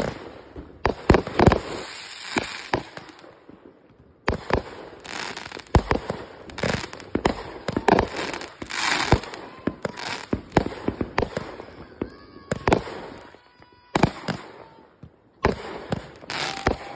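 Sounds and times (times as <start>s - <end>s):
fireworks bangs: 0.0s - 16.9s
fireworks crackling: 0.0s - 16.9s.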